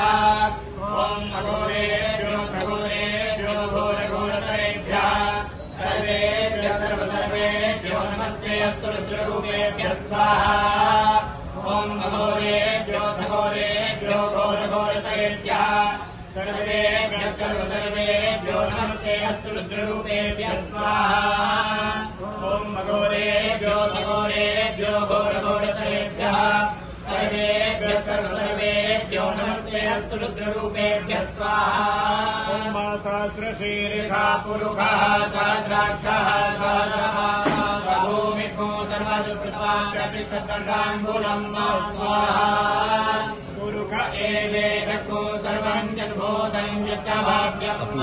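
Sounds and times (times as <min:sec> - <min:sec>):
person chanting: 0:00.0 - 0:48.0.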